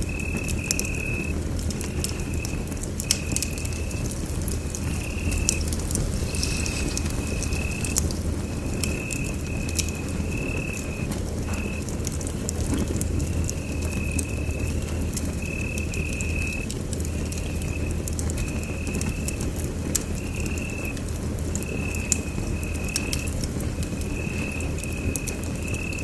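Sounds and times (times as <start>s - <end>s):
fire crackling and popping: 0.0s - 26.0s
rumble of flames: 0.0s - 26.0s.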